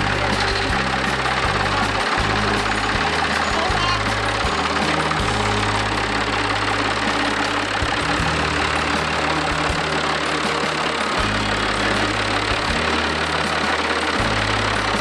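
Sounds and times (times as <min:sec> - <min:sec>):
music: 0:00.0 - 0:15.0
tractor engine running: 0:00.0 - 0:15.0.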